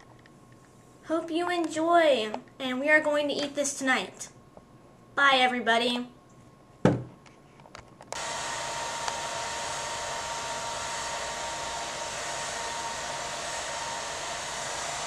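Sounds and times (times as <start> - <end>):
steady hiss-like noise: 0.0 - 15.0.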